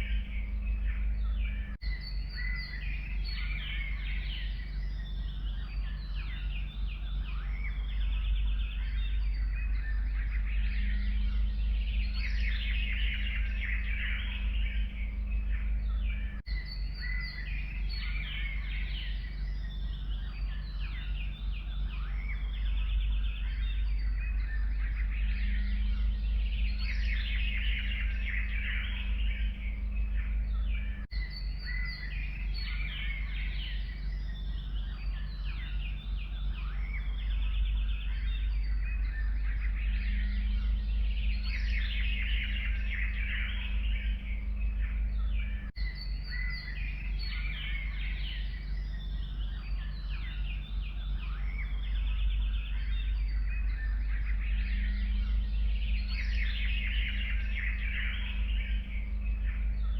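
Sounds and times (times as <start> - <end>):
songbirds chorus: 0.0 - 59.9.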